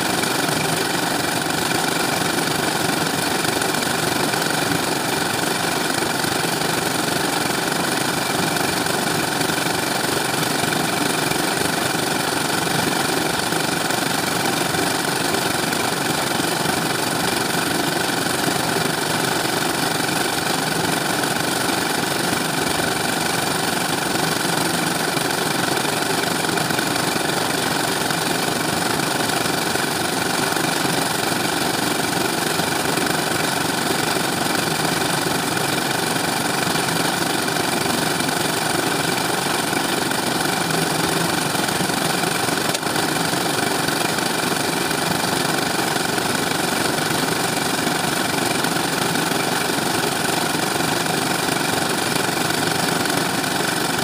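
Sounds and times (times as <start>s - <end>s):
concrete mixer running: 0.0s - 54.0s.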